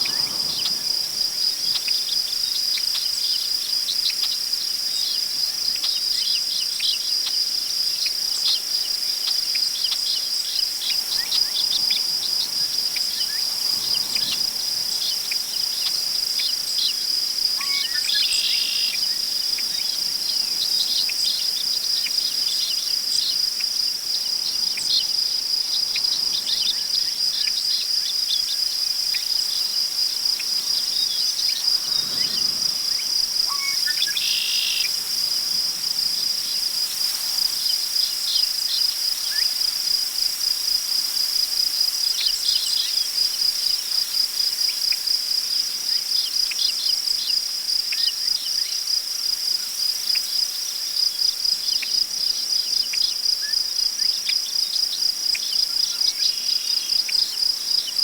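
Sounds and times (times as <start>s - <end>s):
crickets trilling: 0.0s - 58.0s
wind through tall grass: 0.0s - 58.0s.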